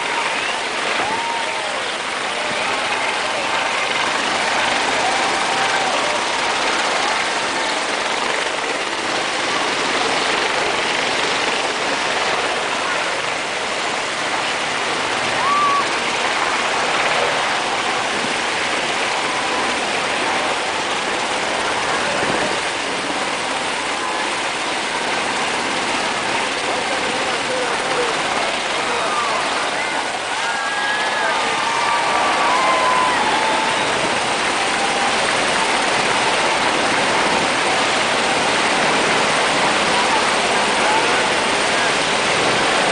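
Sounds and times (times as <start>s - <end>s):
helicopters flying over: 0.0s - 42.9s.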